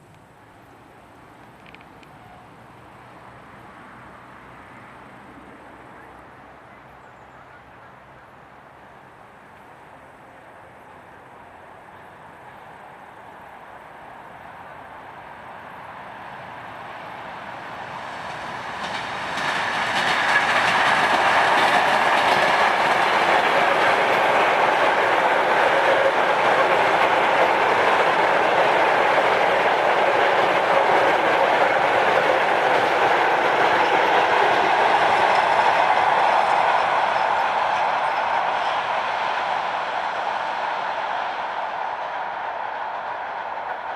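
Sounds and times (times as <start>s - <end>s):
train passing: 0.0s - 43.9s
wheels rushing on rails: 0.0s - 43.9s.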